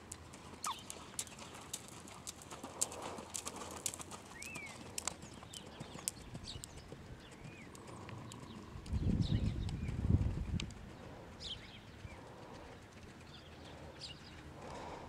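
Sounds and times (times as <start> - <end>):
horse hooves on sand: 0.0 - 15.0
small birds chirping: 0.6 - 3.3, 4.2 - 15.0.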